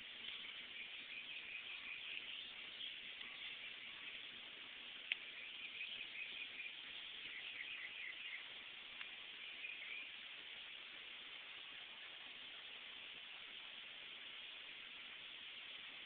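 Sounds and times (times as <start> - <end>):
distant birds chirping: 0.0 - 15.6.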